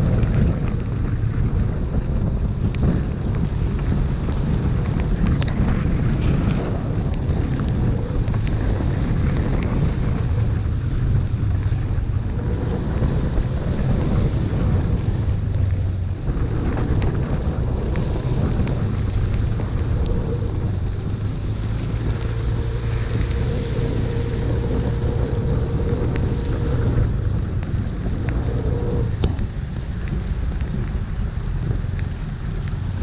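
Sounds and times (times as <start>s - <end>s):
low engine hum: 0.0s - 33.0s
wind noise on microphone: 0.0s - 33.0s.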